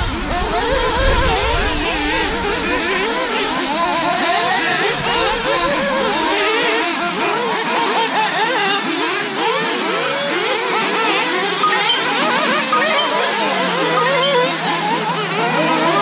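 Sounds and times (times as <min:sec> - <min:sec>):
rc car engines whining: 0:00.0 - 0:16.0.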